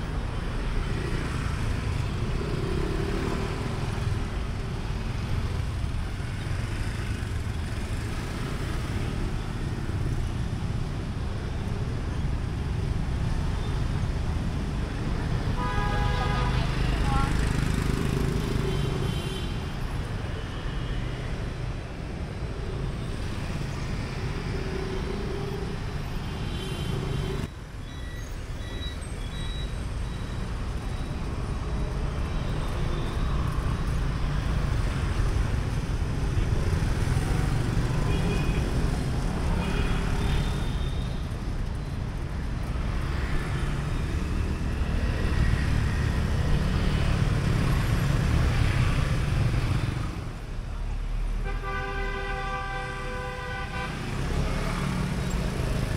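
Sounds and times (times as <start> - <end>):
motorbikes and cars passing: 0.0 - 55.9
road noise hum: 0.0 - 55.9.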